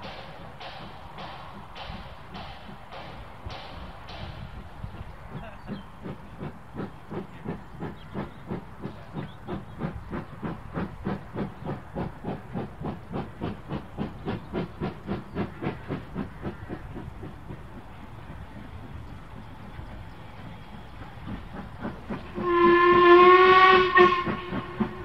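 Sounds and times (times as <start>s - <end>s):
steam locomotive exhaust chuffing: 0.0s - 25.0s.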